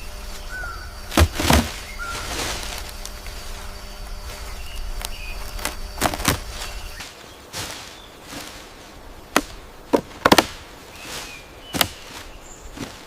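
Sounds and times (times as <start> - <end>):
faint insect hum: 0.0 - 13.0.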